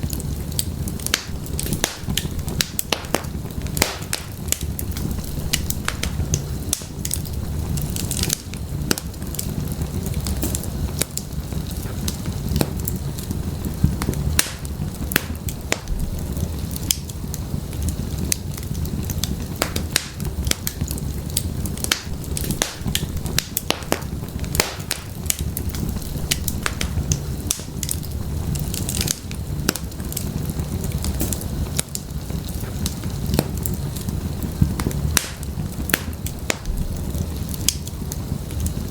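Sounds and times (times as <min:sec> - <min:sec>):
wood fire popping and crackling: 0:00.0 - 0:38.9.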